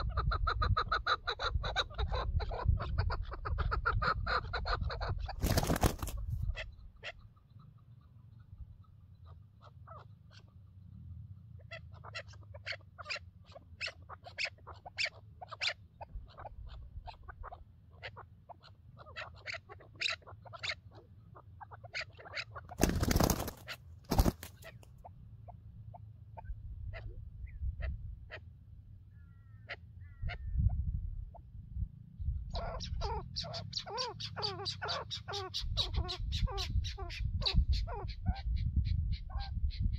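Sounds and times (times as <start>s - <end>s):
partridges calling: 0.0s - 10.9s, 11.5s - 28.5s, 29.1s - 30.8s, 32.4s - 39.9s.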